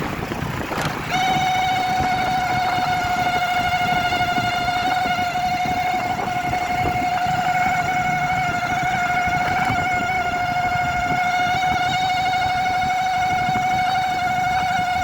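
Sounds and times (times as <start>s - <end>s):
instrument cluster buzzing tone: 0.0s - 15.0s.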